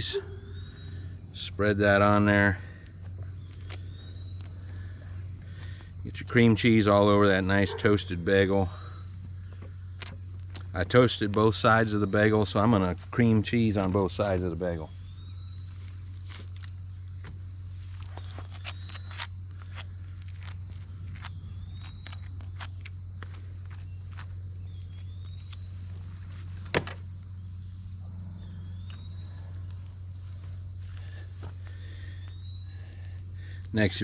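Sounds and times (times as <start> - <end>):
crickets chirping: 0.0 - 34.0
low steady hum: 0.0 - 34.0.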